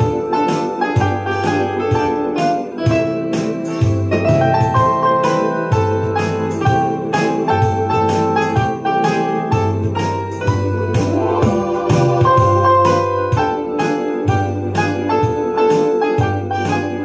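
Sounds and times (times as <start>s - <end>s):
crisp ticking beat: 0.0s - 15.8s
electronic organ big band tune: 0.0s - 17.0s.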